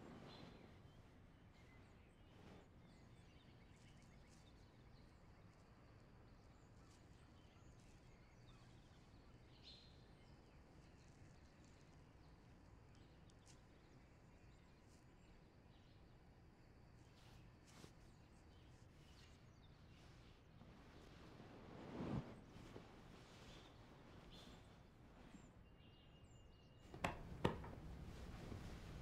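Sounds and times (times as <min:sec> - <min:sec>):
faint bird chirps: 0:00.0 - 0:21.3, 0:22.5 - 0:26.9.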